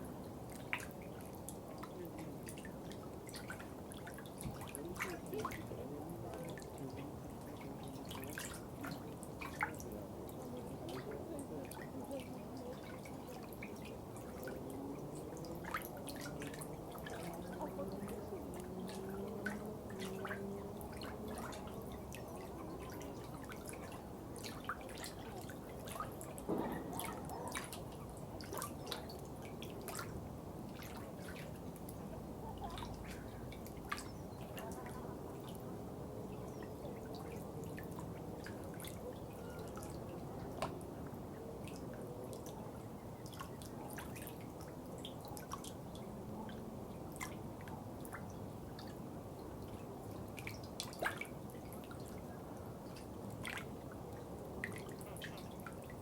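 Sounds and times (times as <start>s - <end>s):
low water noise: 0.0s - 56.0s.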